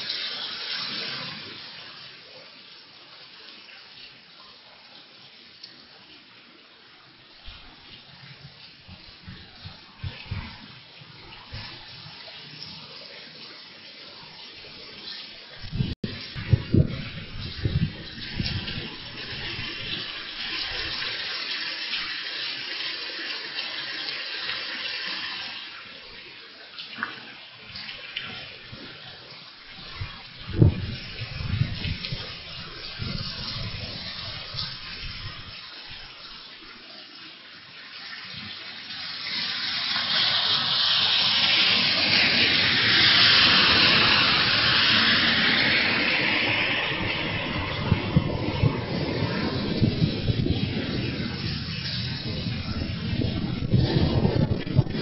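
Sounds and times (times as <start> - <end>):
rain pouring down: 0.0 - 55.0.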